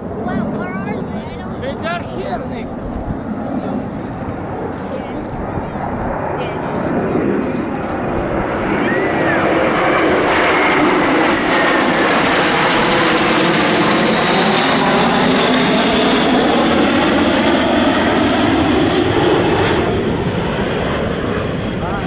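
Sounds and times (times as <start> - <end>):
jets flying past: 0.0 - 22.0.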